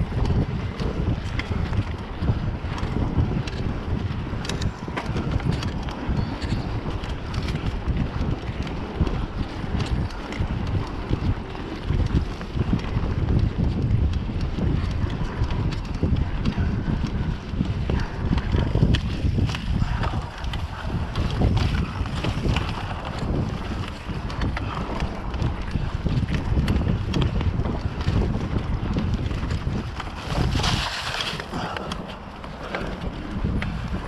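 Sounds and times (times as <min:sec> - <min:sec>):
bike knocks and rattles: 0:00.0 - 0:34.0
tyre rumble: 0:00.0 - 0:34.0
wind buffeting microphone: 0:00.0 - 0:34.0.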